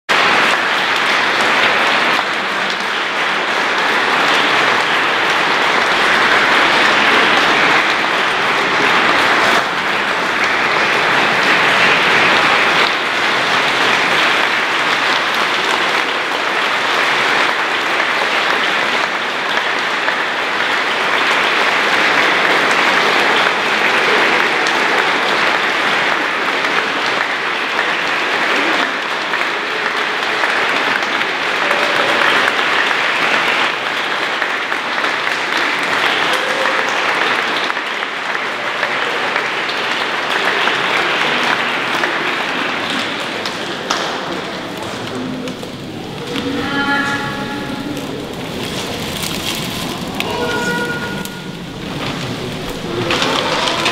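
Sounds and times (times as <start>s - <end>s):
crowd applauding: 0.0s - 53.9s.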